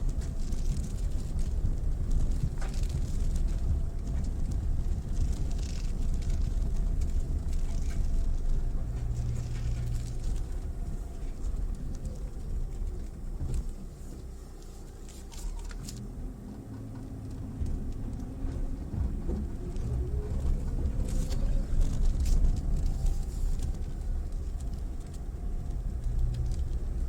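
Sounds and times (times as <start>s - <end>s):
car engine running: 0.0s - 27.0s
tyres rumbling on gravel: 0.0s - 27.0s.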